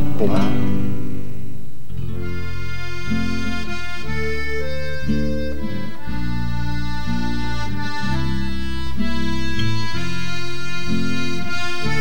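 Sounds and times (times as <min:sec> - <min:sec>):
accordion playing chords and melody: 0:02.0 - 0:12.0.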